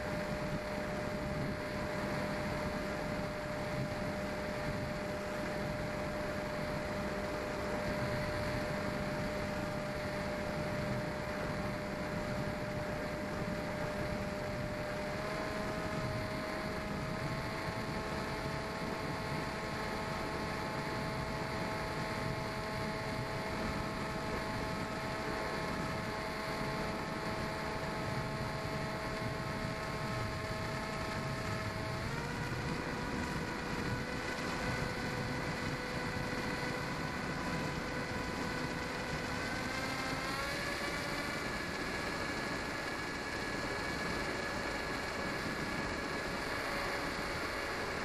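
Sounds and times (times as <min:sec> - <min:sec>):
model plane motor whine: 0:00.0 - 0:48.0
wind hiss: 0:00.0 - 0:48.0.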